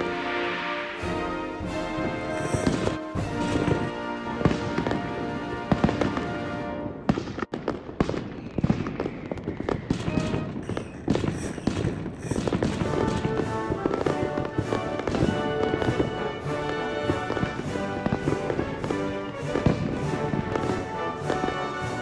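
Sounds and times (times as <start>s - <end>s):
orchestral music: 0.0s - 8.0s, 9.9s - 11.6s, 12.2s - 22.0s
fireworks booming and crackling: 0.0s - 22.0s.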